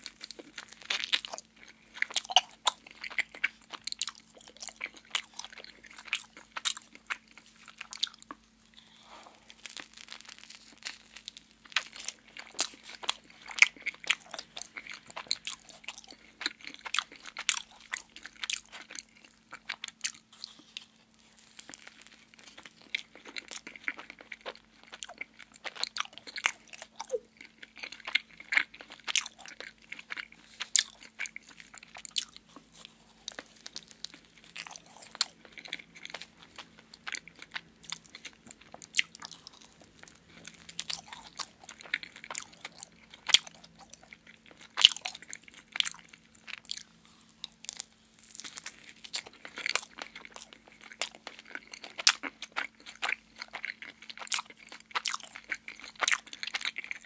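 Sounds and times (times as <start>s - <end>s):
chewing donut crunches: 0.0s - 57.0s.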